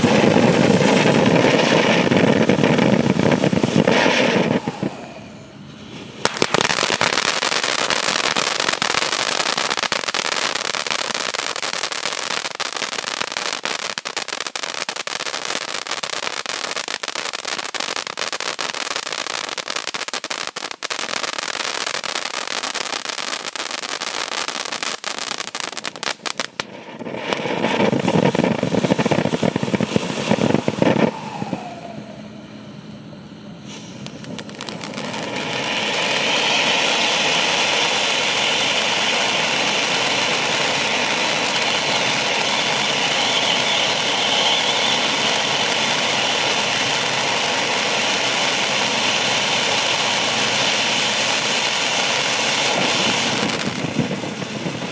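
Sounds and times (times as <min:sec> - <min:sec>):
firework fountains crackling: 0:00.0 - 0:32.8, 0:33.6 - 0:54.9
firework sparks hissing: 0:00.0 - 0:33.0, 0:33.6 - 0:54.9.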